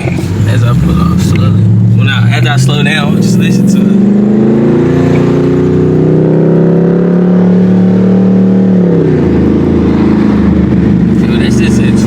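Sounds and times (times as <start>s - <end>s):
loud car exhaust pulling off: 0.0s - 12.0s.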